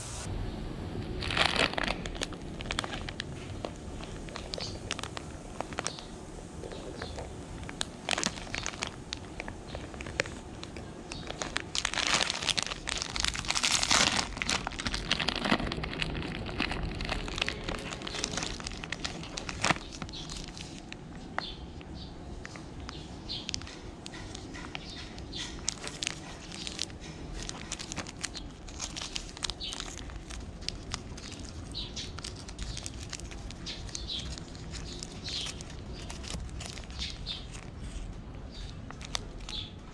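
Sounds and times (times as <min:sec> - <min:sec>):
candy wrapper crinkling: 0:01.1 - 0:39.9.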